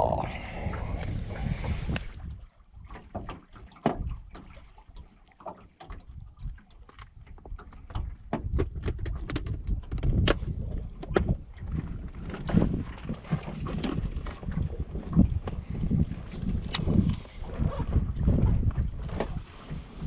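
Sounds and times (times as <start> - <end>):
wind rumble on microphone: 0.0 - 4.8, 5.9 - 20.0.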